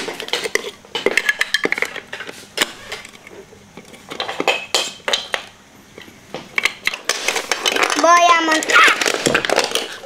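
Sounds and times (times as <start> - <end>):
plastic bricks clacking: 0.0 - 10.0.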